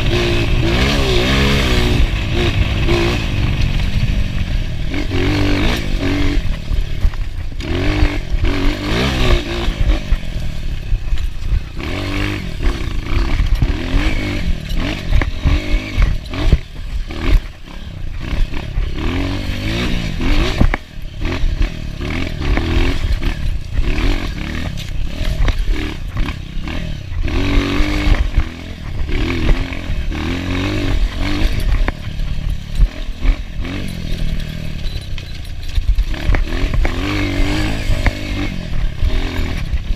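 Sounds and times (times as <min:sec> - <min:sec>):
bike rattling: 0:00.0 - 0:39.9
dirt bike engine revving: 0:00.0 - 0:39.9.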